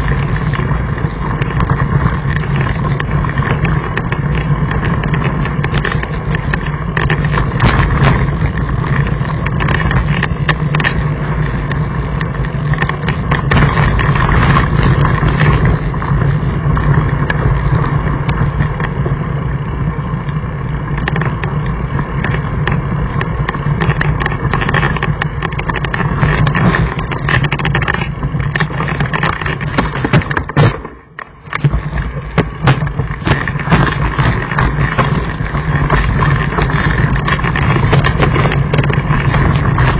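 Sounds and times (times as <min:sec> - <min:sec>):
bike rattling over gravel: 0:00.0 - 0:39.9.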